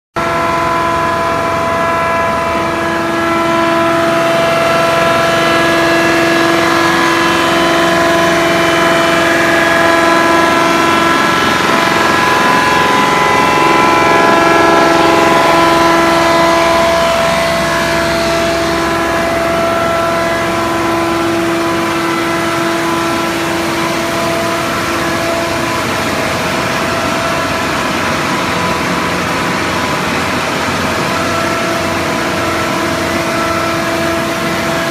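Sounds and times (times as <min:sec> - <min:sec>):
wood crushing machine droning: 0:00.2 - 0:34.9.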